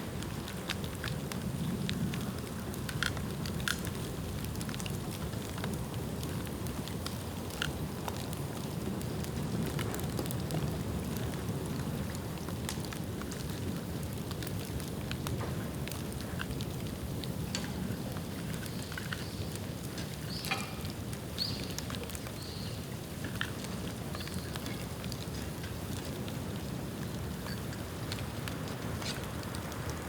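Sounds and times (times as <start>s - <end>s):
fire crackles and pops: 0.0s - 30.0s
low rush of flame: 0.0s - 30.0s.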